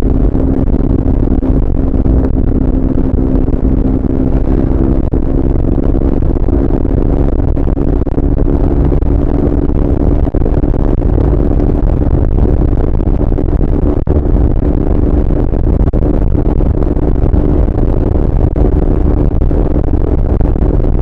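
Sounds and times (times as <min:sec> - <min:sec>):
heavy low rumble: 0:00.0 - 0:21.0
motorcycle engine running: 0:00.0 - 0:21.0.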